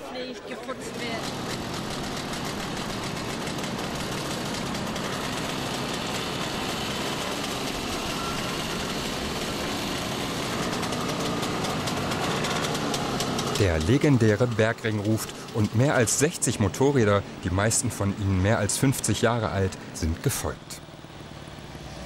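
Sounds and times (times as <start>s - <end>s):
two-stroke engines running: 0.6s - 22.0s.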